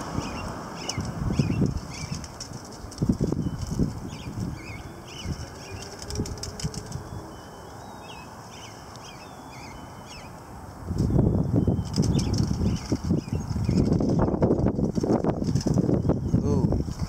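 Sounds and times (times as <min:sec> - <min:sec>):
gusty wind buffeting microphone: 0:00.0 - 0:07.4, 0:10.6 - 0:17.0
small birds chirping: 0:00.0 - 0:10.5, 0:11.2 - 0:17.0.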